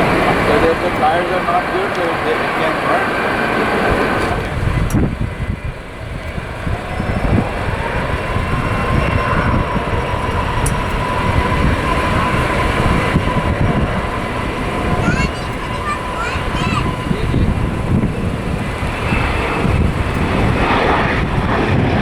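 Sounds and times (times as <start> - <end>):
jet engine whine: 0.0 - 22.0
wind buffeting microphone: 0.0 - 22.0.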